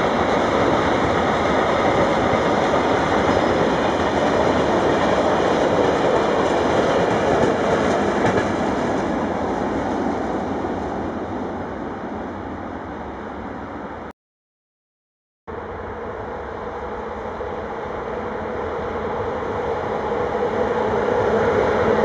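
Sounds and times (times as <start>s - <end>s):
freight train rolling past: 0.0s - 14.1s, 15.5s - 22.0s.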